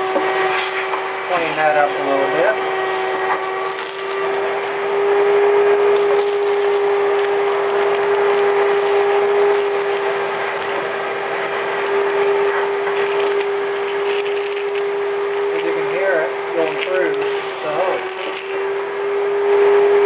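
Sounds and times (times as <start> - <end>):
shop vac sucking water: 0.0 - 20.0.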